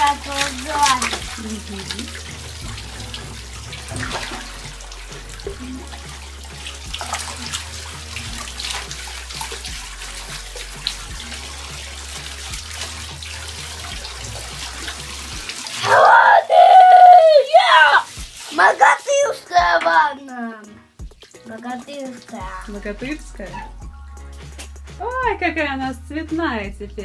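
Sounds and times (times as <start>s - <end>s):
splashes and drips into water: 0.0s - 25.2s
shower water hissing: 0.0s - 25.3s.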